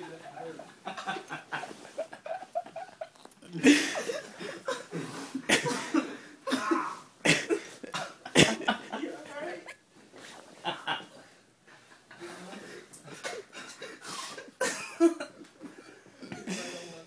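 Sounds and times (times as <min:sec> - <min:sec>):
young men laughing hard: 0:00.0 - 0:09.8, 0:10.6 - 0:11.2, 0:13.0 - 0:16.9.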